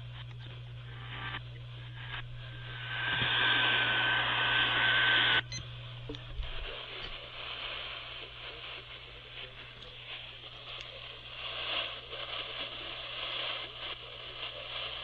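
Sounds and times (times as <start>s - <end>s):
low hum: 0.0s - 12.6s
radio static hiss: 0.0s - 15.0s.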